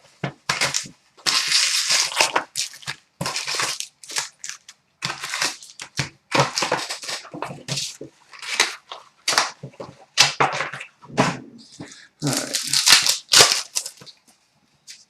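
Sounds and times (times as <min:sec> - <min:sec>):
plastic wrapping crinkling and tearing: 0:00.2 - 0:14.3.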